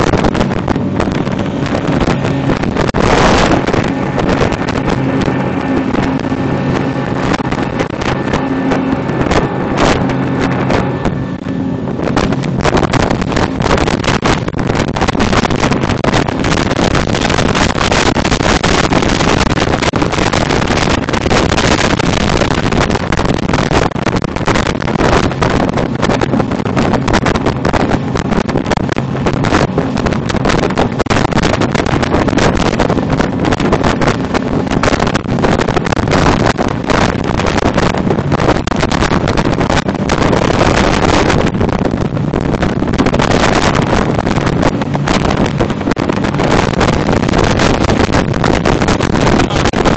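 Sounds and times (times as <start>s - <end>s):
boat motor running: 0.0s - 49.9s
wind buffeting microphone: 0.0s - 49.9s.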